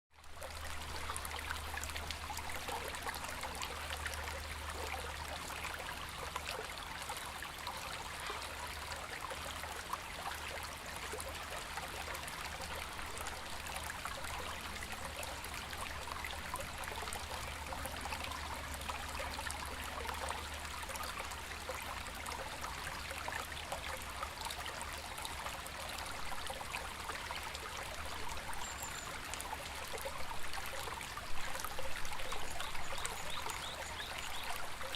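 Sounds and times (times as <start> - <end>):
shallow river babbling: 0.2 - 34.9.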